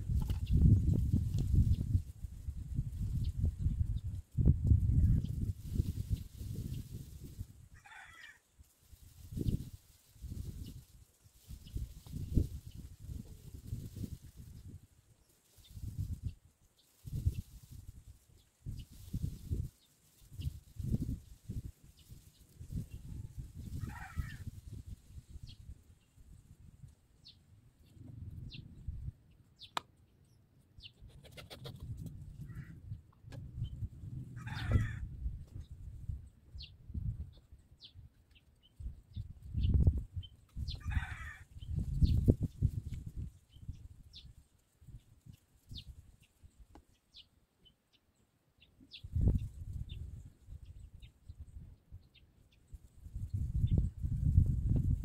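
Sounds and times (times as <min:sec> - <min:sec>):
wind rumble on microphone: 0:00.0 - 0:29.7, 0:30.8 - 0:47.2, 0:48.8 - 0:55.0.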